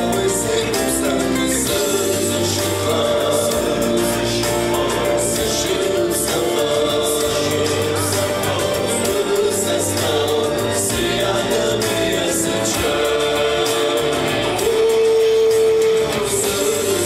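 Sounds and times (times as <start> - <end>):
backing track with steady beat: 0.0 - 17.0
man singing into a microphone: 0.0 - 17.0.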